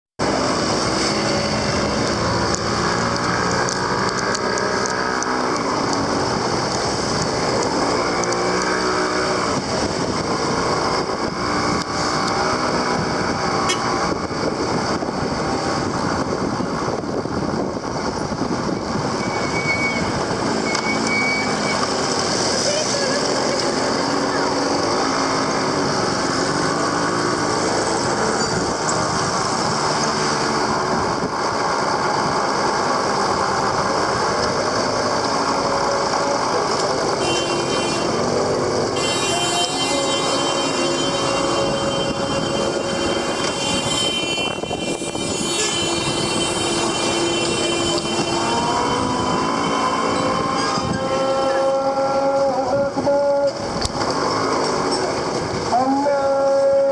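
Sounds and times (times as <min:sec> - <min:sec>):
road noise: 0:00.2 - 0:56.9
street noise: 0:00.2 - 0:56.9.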